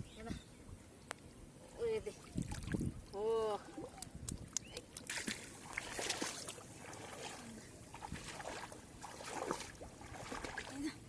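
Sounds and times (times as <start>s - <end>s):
splashing in shallow water: 2.0s - 11.0s.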